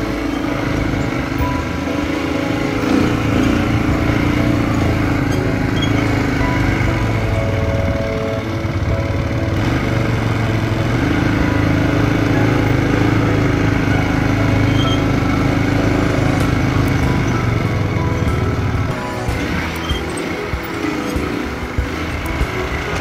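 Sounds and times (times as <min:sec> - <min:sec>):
buggy engine running: 0:00.0 - 0:23.0.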